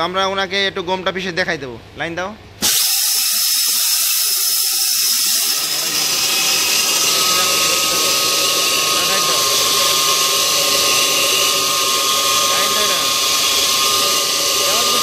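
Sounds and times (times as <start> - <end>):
stone grinding mill whirring: 2.6 - 15.0.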